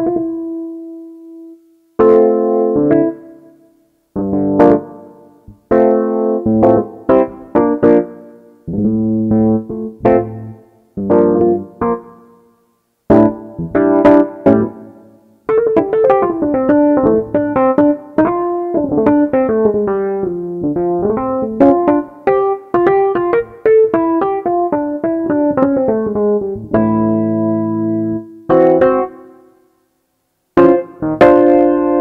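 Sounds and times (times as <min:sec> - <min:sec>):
electric piano notes and chords: 0:00.0 - 0:12.4, 0:13.1 - 0:29.5, 0:30.6 - 0:32.0.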